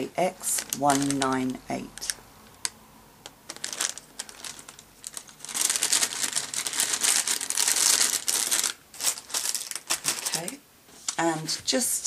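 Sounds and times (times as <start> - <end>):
plastic packet crinkling: 0.2 - 10.6.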